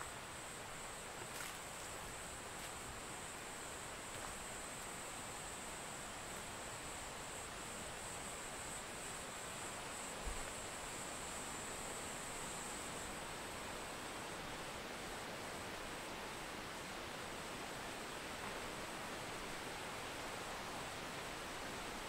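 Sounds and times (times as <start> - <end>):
high insect trill: 0.0 - 22.0
stream rushing: 0.0 - 22.0.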